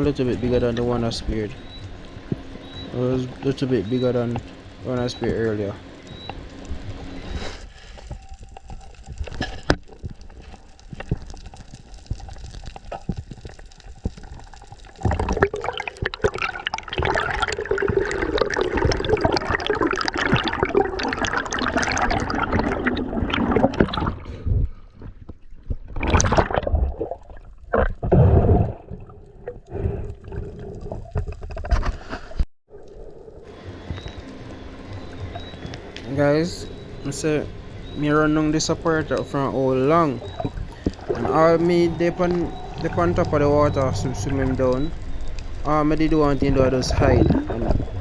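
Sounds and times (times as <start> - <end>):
water rushing and gurgling: 0.0 - 23.9, 33.4 - 48.0.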